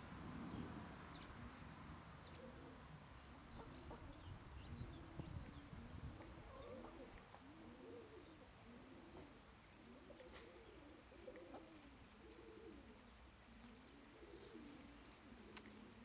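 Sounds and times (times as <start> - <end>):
faint low bird calls: 0.3 - 16.0.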